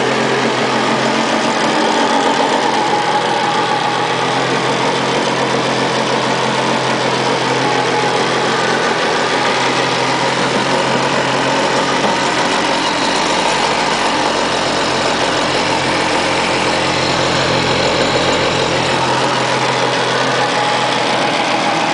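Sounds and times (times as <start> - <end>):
jet ski engine idling: 0.0 - 21.9.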